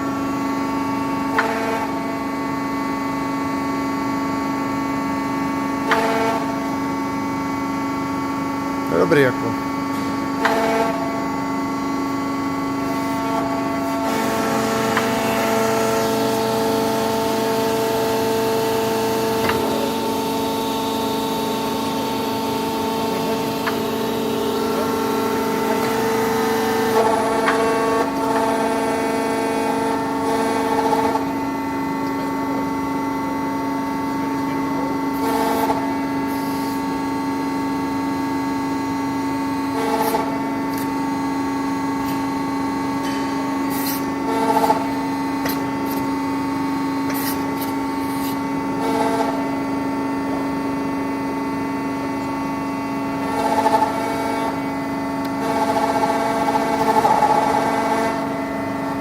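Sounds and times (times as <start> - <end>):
drilling machine humming: 0.0 - 59.0.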